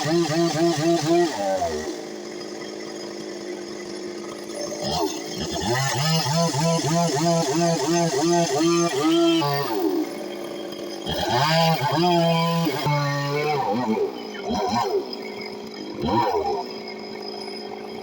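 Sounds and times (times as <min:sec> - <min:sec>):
chainsaw revving: 0:00.0 - 0:18.0.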